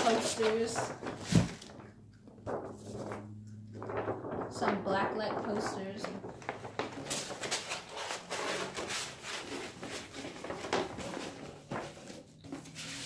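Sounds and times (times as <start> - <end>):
paper posters rustling: 0.0 - 13.0.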